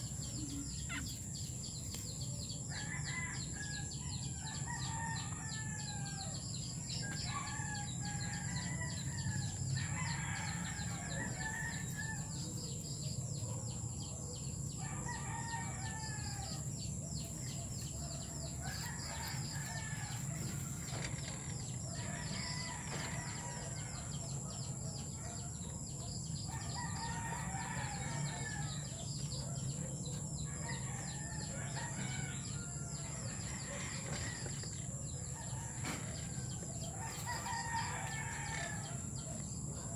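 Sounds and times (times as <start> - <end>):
roosters crowing: 2.6 - 13.2, 13.8 - 39.9.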